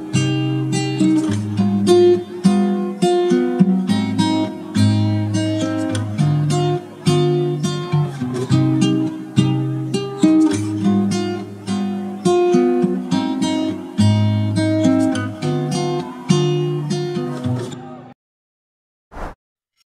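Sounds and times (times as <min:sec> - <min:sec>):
acoustic guitar tune with bass: 0:00.0 - 0:18.1.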